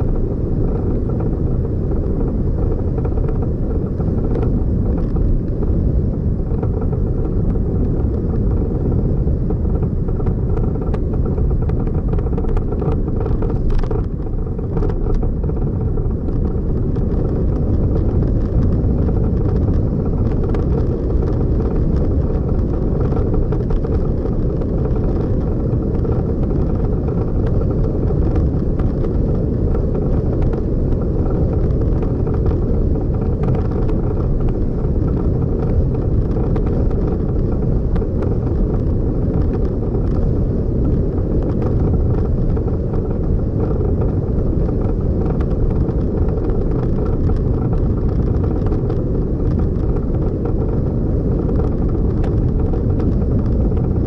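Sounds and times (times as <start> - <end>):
vehicle driving rumble: 0.0 - 54.0.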